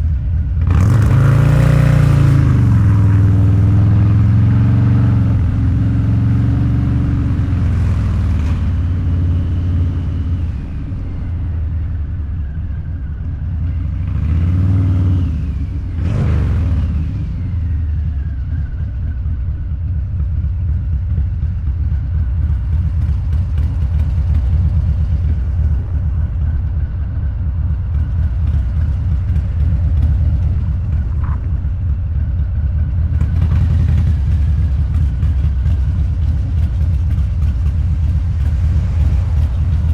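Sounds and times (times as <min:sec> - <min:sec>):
motorcycle engine revving: 0:00.6 - 0:19.2, 0:20.4 - 0:39.9.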